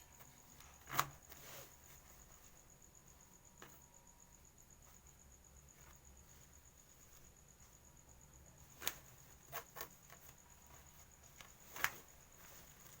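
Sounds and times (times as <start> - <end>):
cricket chirring: 0.0 - 13.0.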